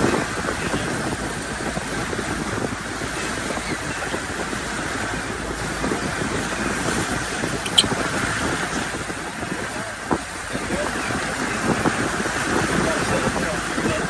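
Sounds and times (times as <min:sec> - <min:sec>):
boat motor running: 0:00.0 - 0:14.0
water rushing past hull: 0:00.0 - 0:14.0
wind on microphone: 0:00.0 - 0:14.0.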